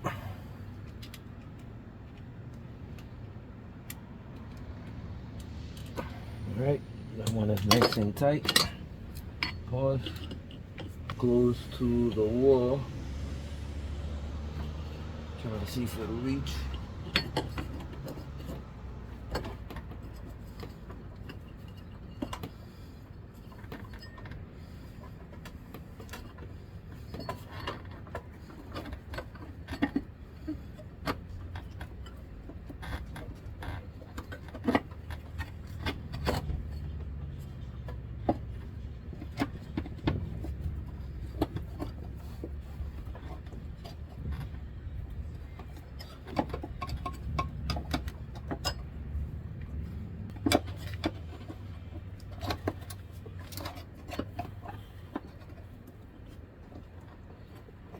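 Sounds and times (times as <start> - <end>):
low steady hum: 0.0 - 57.9
metal parts and tools clinking: 7.1 - 12.9, 14.6 - 55.7.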